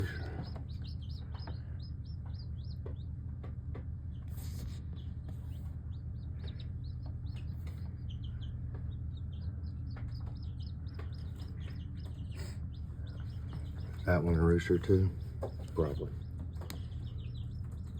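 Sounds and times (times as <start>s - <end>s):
chicks peeping: 0.0s - 17.9s
steady low hum: 0.0s - 17.9s.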